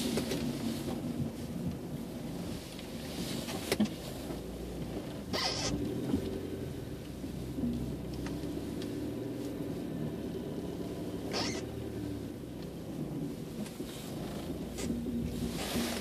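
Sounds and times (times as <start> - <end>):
car engine and fan hum: 0.0 - 16.0.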